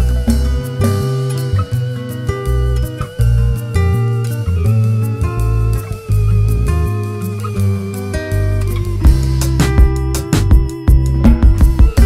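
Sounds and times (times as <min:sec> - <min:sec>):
guitar music: 0:00.0 - 0:12.0
steady beat: 0:00.0 - 0:12.0.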